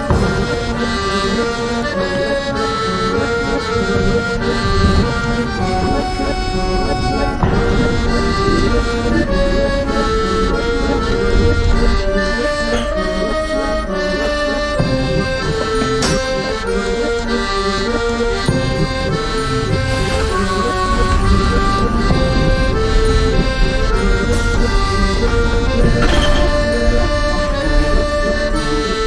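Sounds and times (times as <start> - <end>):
accordion playing a tune: 0.0 - 29.0.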